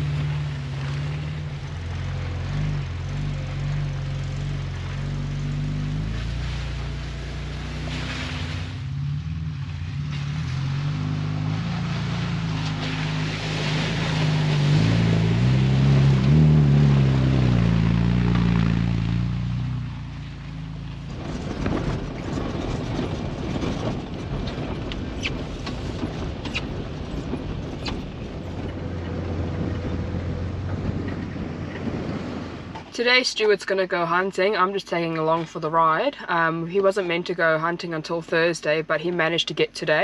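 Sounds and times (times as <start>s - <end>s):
four-wheel drive engine: 0.0s - 40.0s
wind and road rumble: 0.0s - 40.0s.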